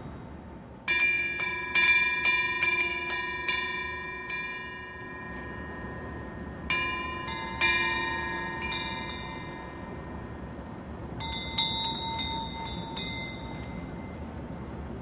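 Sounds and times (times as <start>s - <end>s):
wind bell ringing: 0.9s - 14.6s.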